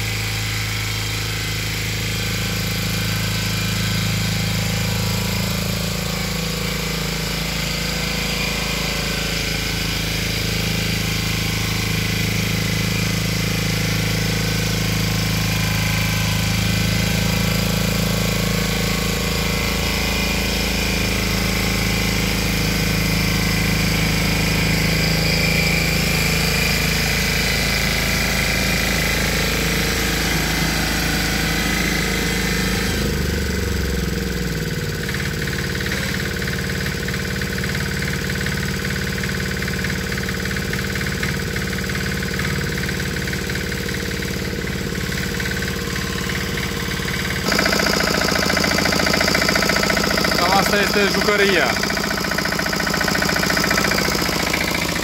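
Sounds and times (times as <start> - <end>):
rotary tiller engine running: 0.0 - 55.0.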